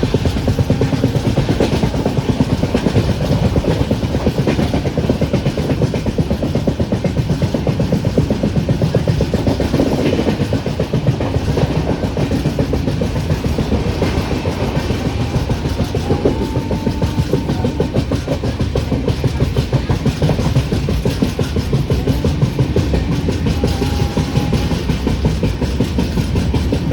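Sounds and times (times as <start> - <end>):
train wheels rattling on rails: 0.0 - 26.9.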